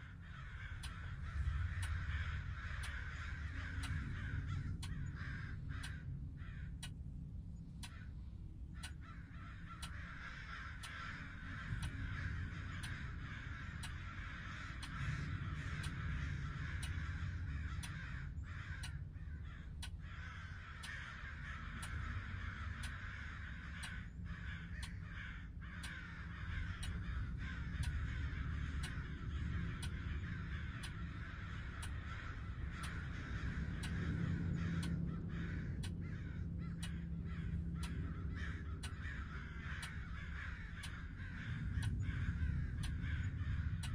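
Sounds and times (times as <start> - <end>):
crows cawing: 0.0 - 43.9
low steady rumble: 0.0 - 43.9
faint clicks: 0.1 - 43.9.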